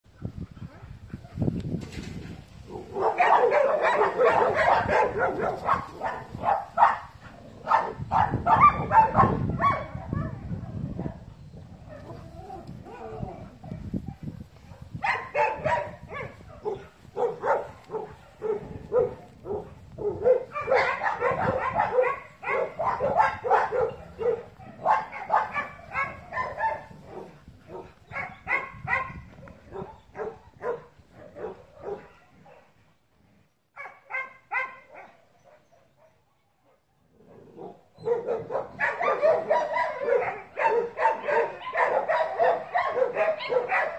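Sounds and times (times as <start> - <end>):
dog barking: 2.7 - 11.2, 12.8 - 32.7, 33.8 - 36.8, 37.6 - 43.9.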